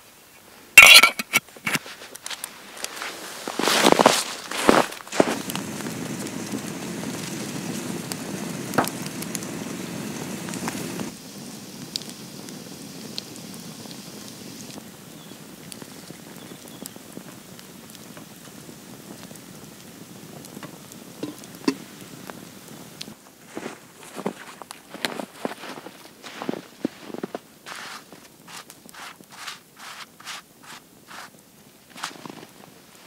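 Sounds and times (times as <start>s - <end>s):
campfire crackling: 0.8s - 33.0s
fire hissing: 0.8s - 33.0s.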